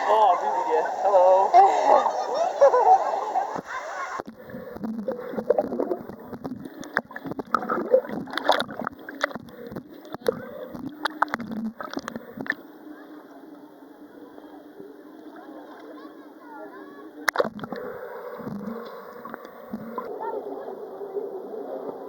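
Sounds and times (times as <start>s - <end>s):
muffled wash of water: 0.0s - 22.0s
water splashing around camera: 0.0s - 22.0s.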